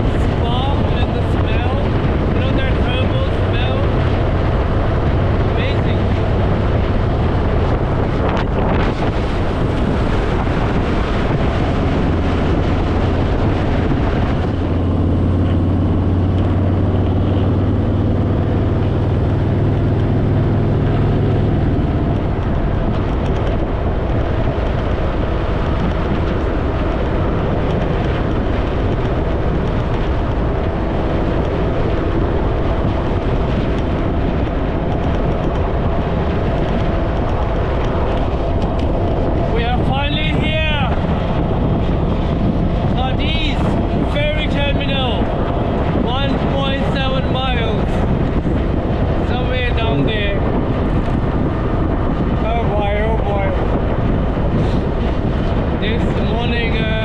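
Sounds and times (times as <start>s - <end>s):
motorcycle engine running: 0.0s - 57.0s
wind on microphone: 0.0s - 57.0s.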